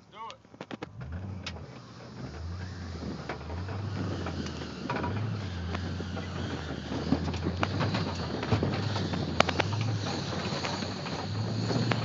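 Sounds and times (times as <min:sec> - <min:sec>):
vehicle engine humming: 0:00.0 - 0:12.0
knocks and rattles: 0:00.5 - 0:12.0.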